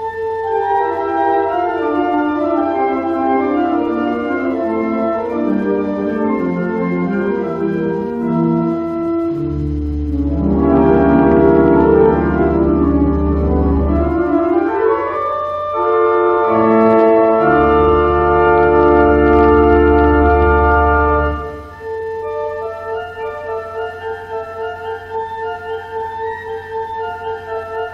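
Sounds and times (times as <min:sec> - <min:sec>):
organ music: 0:00.0 - 0:27.9.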